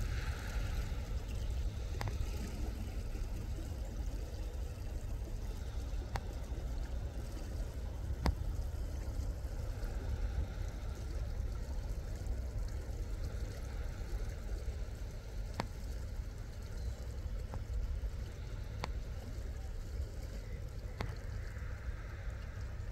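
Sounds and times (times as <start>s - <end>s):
boat engine rumbling: 0.0s - 22.9s
water wash: 0.0s - 22.9s.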